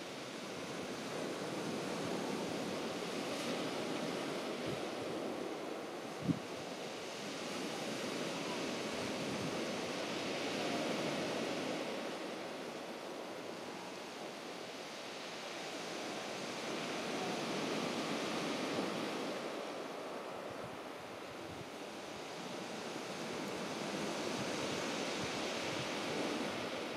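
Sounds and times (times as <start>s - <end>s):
waves washing onto beach: 0.0s - 26.9s.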